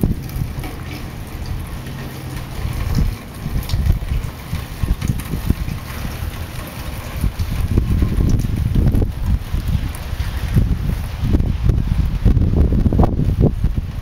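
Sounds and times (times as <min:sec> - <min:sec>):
wind gusting across microphone: 0:00.0 - 0:14.0.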